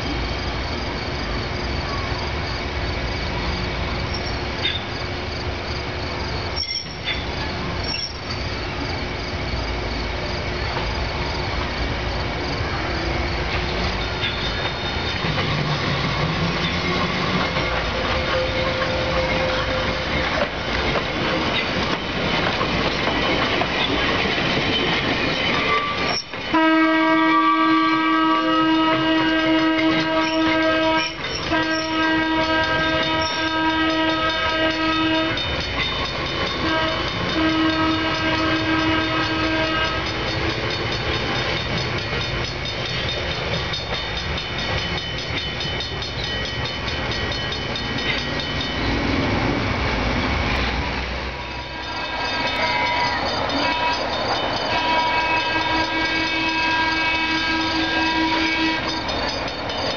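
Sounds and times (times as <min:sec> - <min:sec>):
streetcar rumbling on rails: 0:00.0 - 0:59.9.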